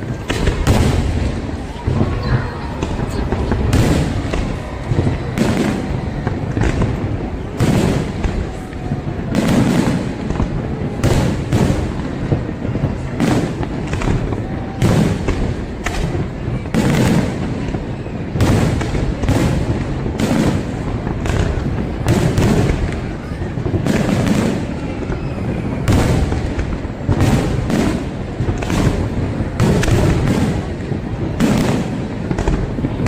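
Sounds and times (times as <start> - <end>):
crowd rumble: 0.0 - 33.0
echoing explosions: 0.0 - 33.0.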